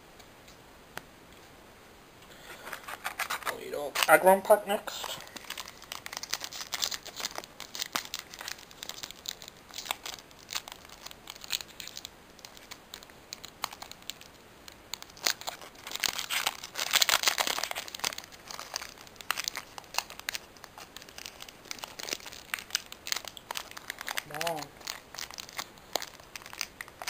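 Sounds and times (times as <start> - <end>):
foil pack tearing and crinkling: 2.4 - 4.3, 4.9 - 27.0.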